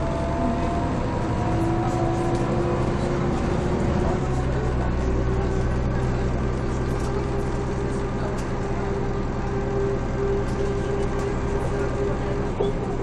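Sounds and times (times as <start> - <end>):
bus diesel engine drone: 0.0 - 13.0
steady engine whine: 0.0 - 13.0.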